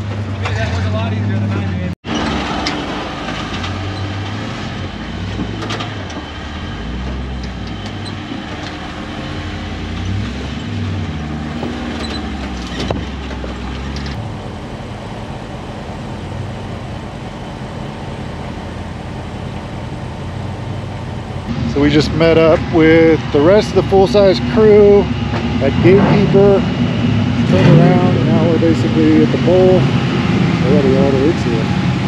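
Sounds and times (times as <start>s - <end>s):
off-road vehicle engine revving: 0.0s - 14.6s, 15.4s - 32.0s.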